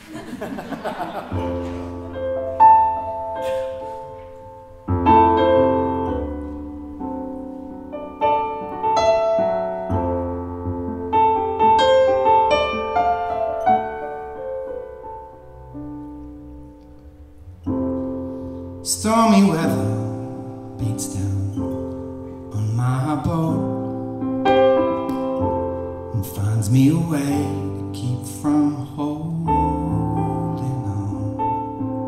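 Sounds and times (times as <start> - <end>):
piano chords and melody: 0.0 - 32.0.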